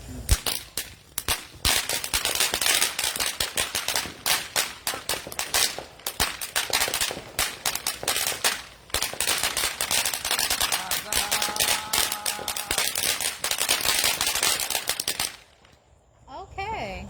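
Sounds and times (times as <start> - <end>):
fireworks cracking and popping: 0.0 - 15.8.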